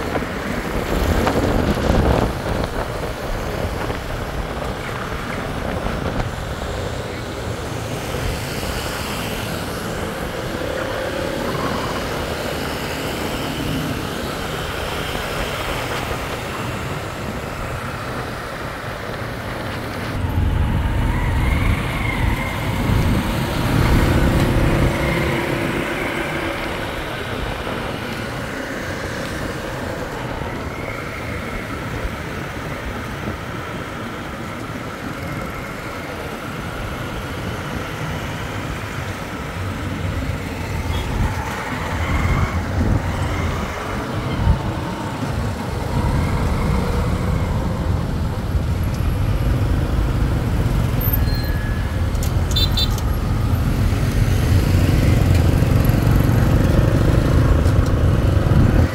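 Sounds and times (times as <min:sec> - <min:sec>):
street traffic: 0:00.0 - 0:58.9.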